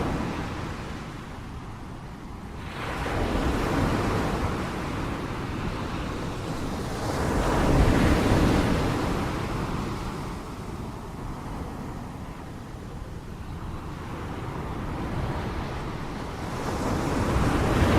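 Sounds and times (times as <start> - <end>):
ocean waves breaking: 0.0 - 17.9.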